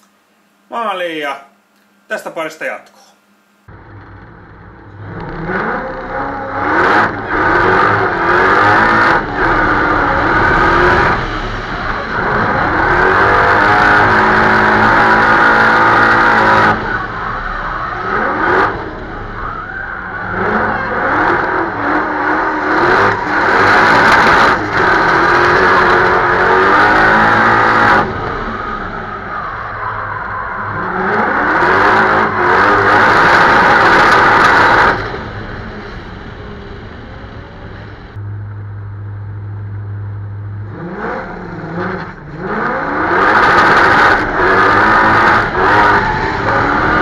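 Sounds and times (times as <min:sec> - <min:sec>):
supercharged car engine revving: 0:03.7 - 0:47.0.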